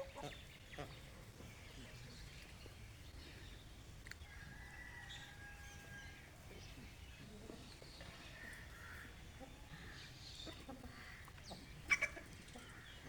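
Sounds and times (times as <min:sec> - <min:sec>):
chickens clucking faintly: 0:00.0 - 0:13.0.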